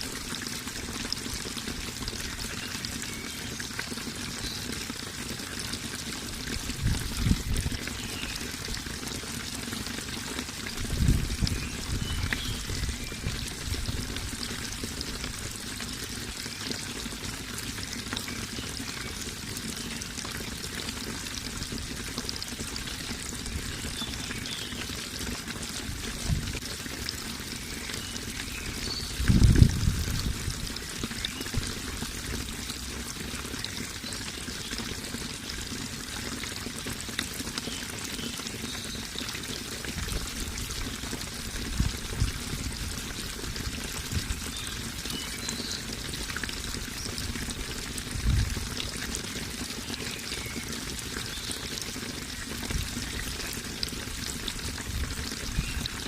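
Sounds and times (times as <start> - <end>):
running water pouring: 0.0 - 56.0.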